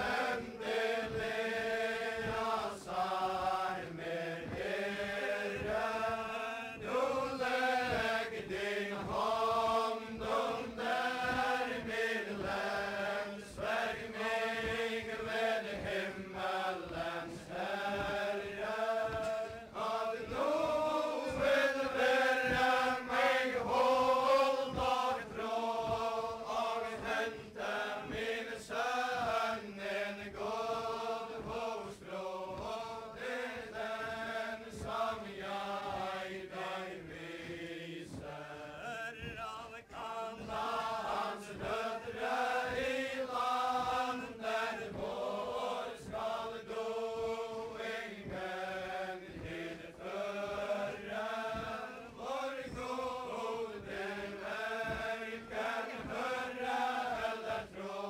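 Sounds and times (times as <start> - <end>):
group singing unaccompanied: 0.0 - 58.0.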